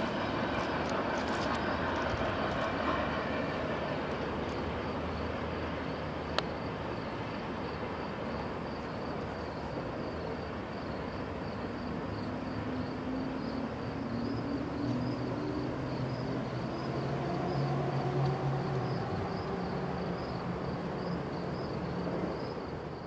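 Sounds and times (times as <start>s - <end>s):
freight train rolling rumble: 0.0s - 23.0s
insect chirping: 0.4s - 23.0s.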